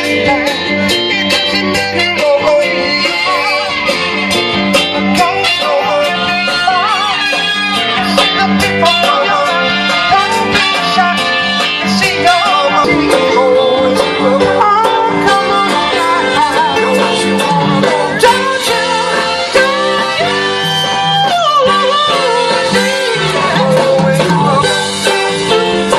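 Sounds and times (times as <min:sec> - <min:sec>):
drums: 0:00.0 - 0:25.9
electric guitar: 0:00.0 - 0:25.9
person singing: 0:01.7 - 0:04.1, 0:05.1 - 0:25.9.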